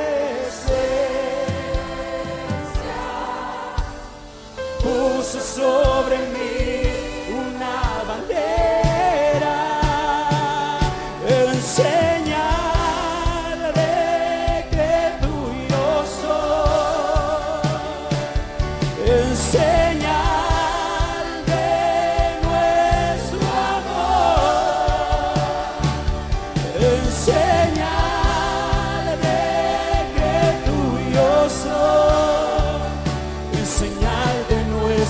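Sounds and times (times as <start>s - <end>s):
band with steady bass: 0.0s - 35.0s
voices singing worship song: 0.0s - 35.0s.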